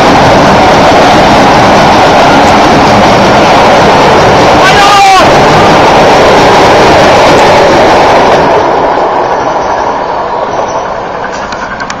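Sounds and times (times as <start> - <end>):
train wheels rattling on rails: 0.0 - 12.0.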